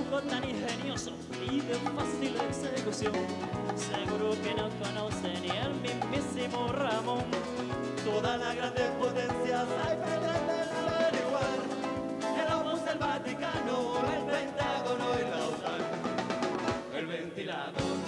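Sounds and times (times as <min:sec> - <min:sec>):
guitars strummed in rumba rhythm: 0:00.0 - 0:18.0
man singing: 0:00.0 - 0:18.0.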